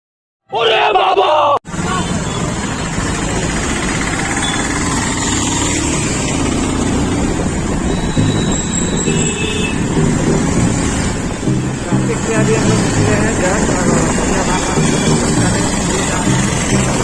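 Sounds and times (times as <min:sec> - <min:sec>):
wind and road noise: 0:01.6 - 0:17.0
motorcycle running: 0:01.7 - 0:17.0.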